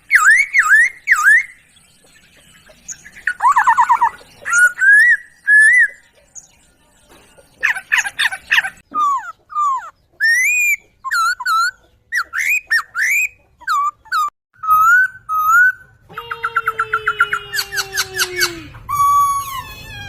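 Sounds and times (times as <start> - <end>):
bird whistled song: 0.0 - 20.0.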